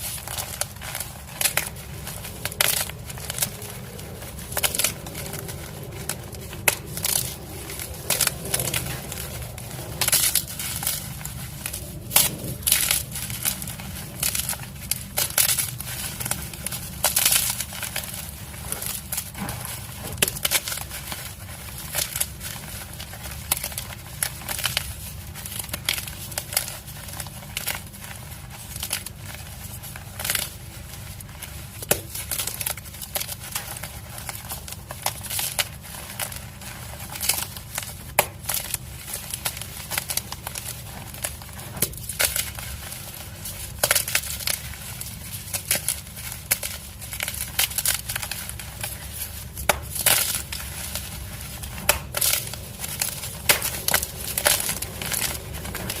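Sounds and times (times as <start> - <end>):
chalk blocks crunching: 0.0 - 56.0.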